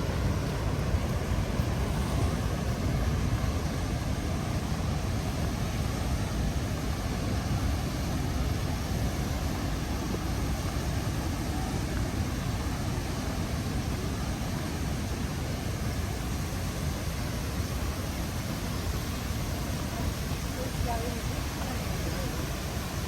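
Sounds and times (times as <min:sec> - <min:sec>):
waterfall roar: 0:00.0 - 0:23.0.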